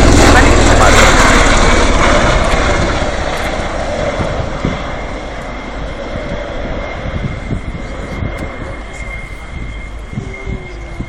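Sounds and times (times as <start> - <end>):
aircraft engines rushing drone: 0.0 - 11.0.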